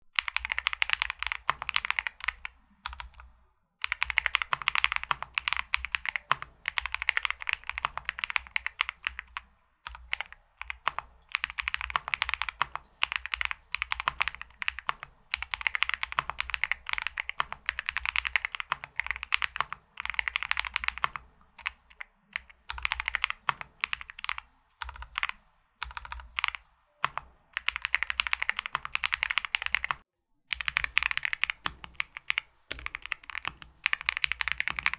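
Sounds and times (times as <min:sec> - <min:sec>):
mechanical keyboard typing: 0:00.2 - 0:34.9.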